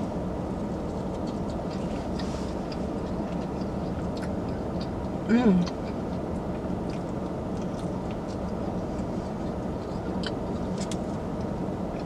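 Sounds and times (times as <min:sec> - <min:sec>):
car cabin hum: 0:00.0 - 0:12.0
faint eating clicks: 0:01.0 - 0:12.0.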